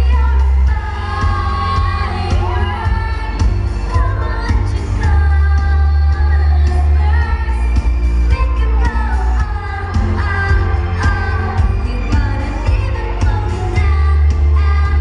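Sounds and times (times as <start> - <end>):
backing track with heavy bass: 0.0 - 15.0
woman singing into microphone: 0.0 - 15.0.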